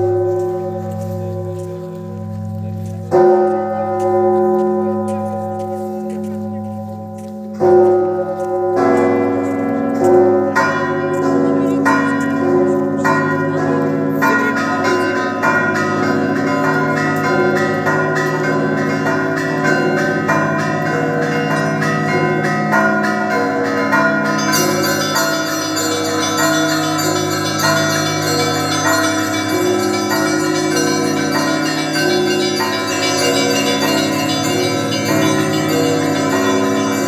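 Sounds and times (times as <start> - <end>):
church bells ringing: 0.0 - 37.0.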